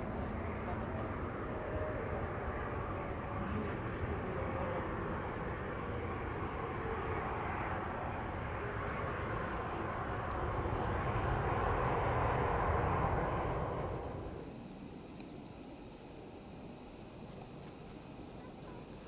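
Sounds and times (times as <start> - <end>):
jet engine rumble: 0.0 - 18.4.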